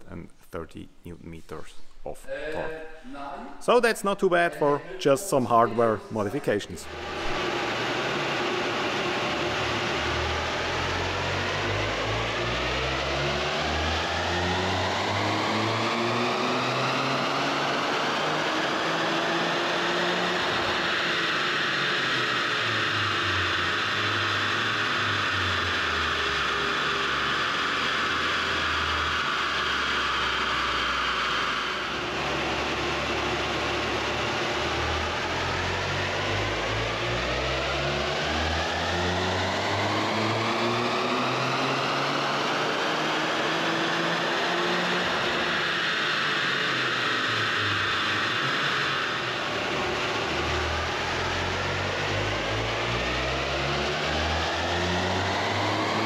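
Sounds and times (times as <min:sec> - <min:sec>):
car engine revving: 0:06.9 - 0:56.0.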